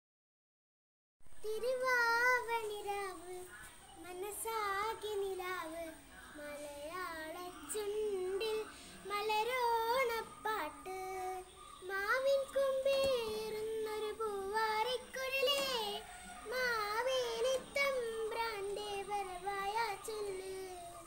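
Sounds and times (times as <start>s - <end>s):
child singing: 1.4s - 21.0s.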